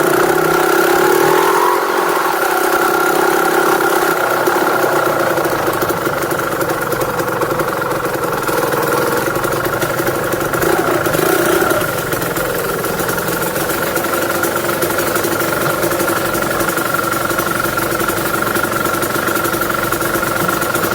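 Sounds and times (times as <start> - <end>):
vehicle engine idling: 0.0 - 20.9.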